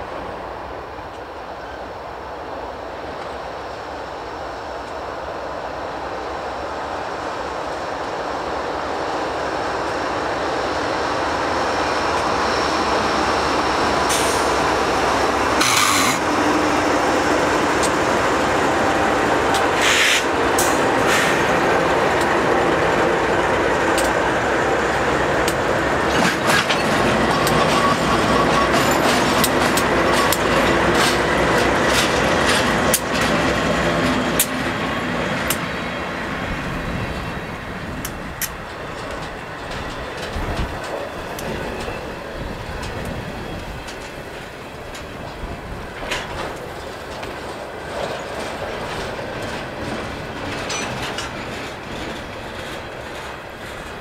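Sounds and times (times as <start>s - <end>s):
freight train rumbling past: 0.0s - 54.0s
train clanks and wheel clicks: 0.0s - 54.0s.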